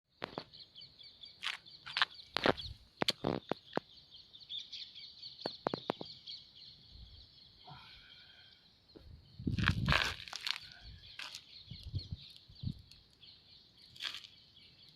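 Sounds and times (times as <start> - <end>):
birds calling: 0.2 - 14.9.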